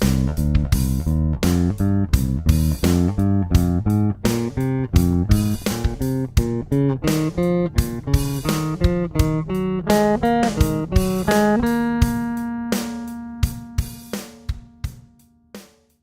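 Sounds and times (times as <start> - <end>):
plucked string instrument: 0.0 - 15.0.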